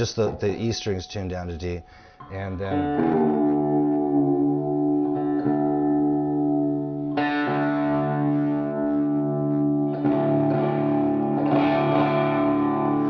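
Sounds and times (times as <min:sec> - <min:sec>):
distorted electric guitar: 0:02.2 - 0:13.0.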